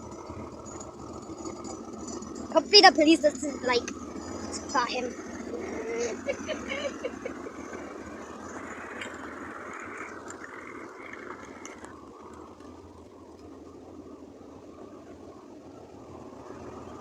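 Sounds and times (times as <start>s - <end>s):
car driving away: 0.0s - 17.0s.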